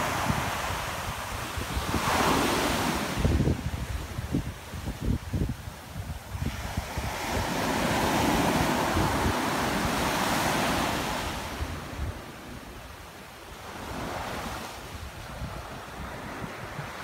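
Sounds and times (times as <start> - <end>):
waves washing up a beach: 0.0 - 17.0
wind buffeting microphone: 0.0 - 17.0.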